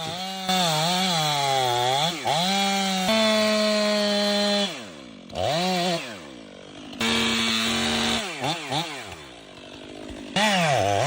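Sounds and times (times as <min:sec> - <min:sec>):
chainsaw revving in wood: 0:00.0 - 0:11.0.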